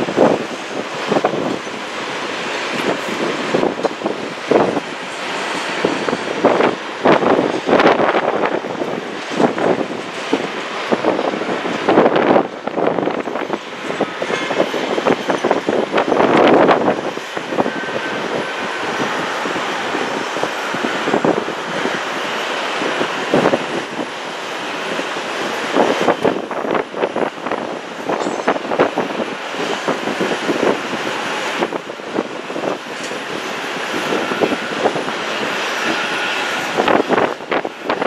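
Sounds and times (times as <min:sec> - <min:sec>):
jet engine rushing: 0:00.0 - 0:38.0.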